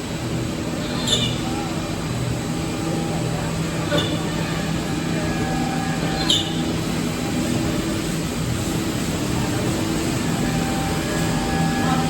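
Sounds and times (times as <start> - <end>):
cnc router humming: 0.0 - 12.0.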